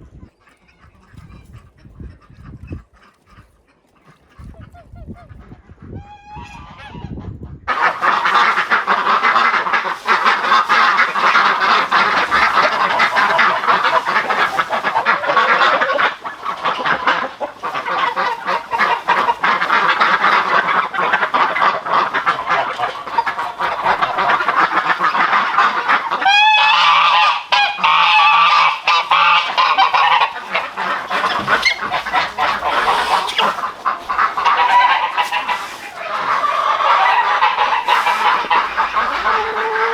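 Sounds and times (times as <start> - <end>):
geese and ducks honking and quacking: 0.0 - 39.9.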